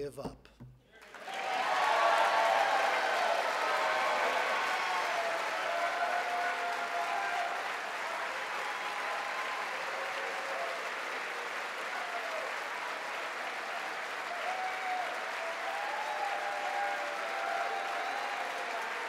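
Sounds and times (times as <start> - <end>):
crowd applauding: 0.9 - 19.0.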